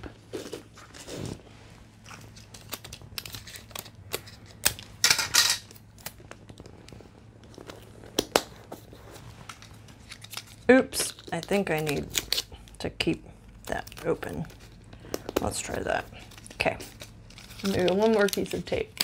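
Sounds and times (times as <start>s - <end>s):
tape and cardboard crinkling: 0.0s - 12.8s, 13.6s - 19.0s.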